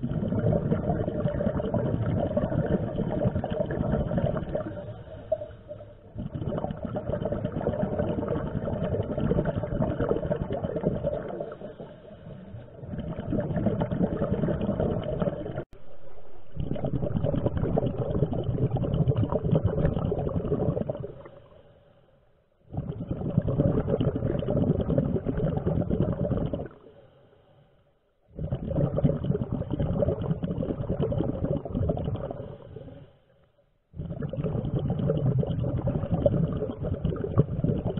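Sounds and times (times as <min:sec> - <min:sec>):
diver exhaling bubbles: 0:00.0 - 0:15.7, 0:16.5 - 0:21.6, 0:22.7 - 0:26.9, 0:28.3 - 0:33.0, 0:34.0 - 0:37.9.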